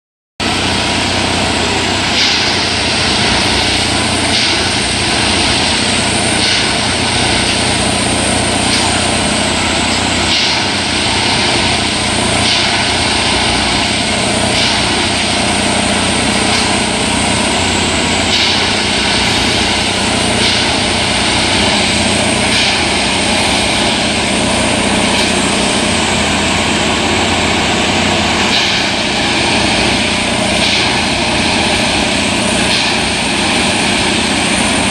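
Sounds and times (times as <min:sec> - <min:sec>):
diesel and hydraulic machinery running: 0:00.4 - 0:34.9
hiss or clatter of tamping: 0:01.8 - 0:26.5, 0:27.8 - 0:34.9.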